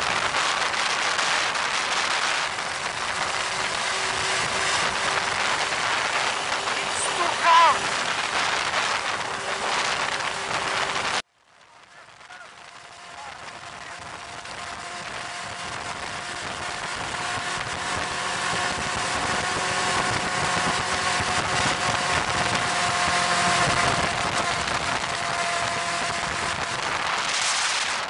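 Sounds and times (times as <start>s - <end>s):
wind rushing over microphone: 0.0s - 11.2s, 11.9s - 28.0s
quad bike engines running: 0.0s - 28.0s.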